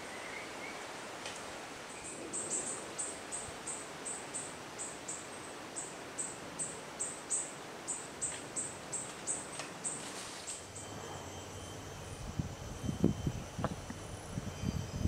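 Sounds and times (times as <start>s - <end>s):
steady hiss: 0.0s - 14.9s
quiet hum with faint high tone: 0.0s - 15.0s
insect chirping: 1.9s - 15.0s.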